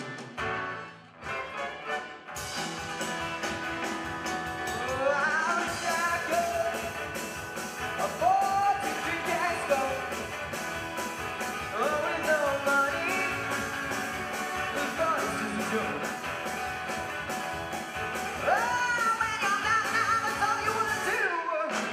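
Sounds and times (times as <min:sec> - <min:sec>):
drum kit beat: 0:00.0 - 0:00.6, 0:02.3 - 0:21.9
folk-rock band playing: 0:00.0 - 0:21.9.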